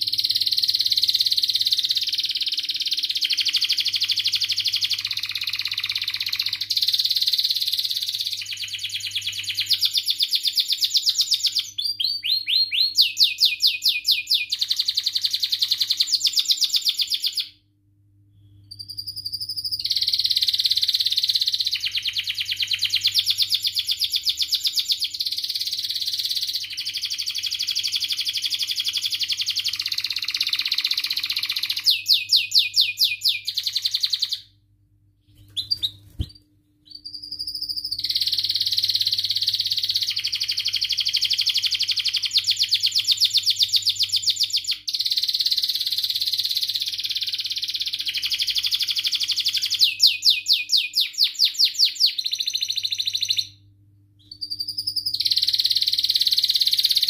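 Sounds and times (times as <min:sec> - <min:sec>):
canary singing: 0:00.0 - 0:17.6, 0:18.6 - 0:34.6, 0:35.3 - 0:57.0.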